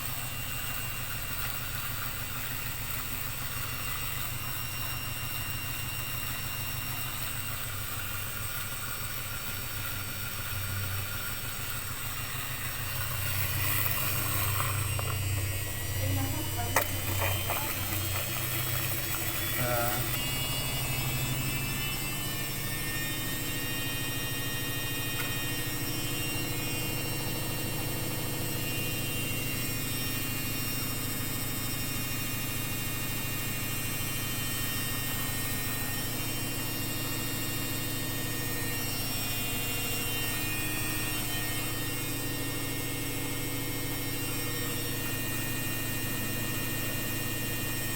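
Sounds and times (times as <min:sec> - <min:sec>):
washing machine motor hum: 0:00.0 - 0:47.9.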